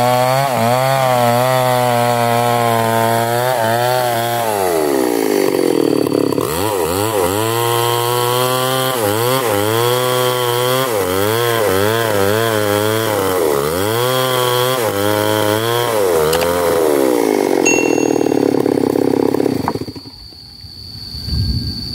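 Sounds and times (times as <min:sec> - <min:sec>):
chainsaw revving: 0:00.0 - 0:20.1.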